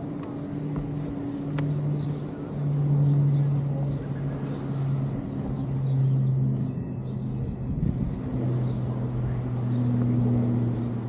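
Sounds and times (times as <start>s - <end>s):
street noise: 0.0s - 11.0s
vehicle engine humming: 0.0s - 11.0s.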